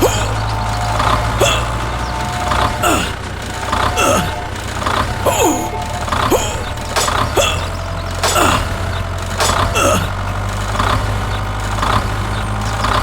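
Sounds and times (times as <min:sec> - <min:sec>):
clatter: 0:00.0 - 0:13.0
falling squeal: 0:00.0 - 0:13.0
small machine humming: 0:00.0 - 0:13.0.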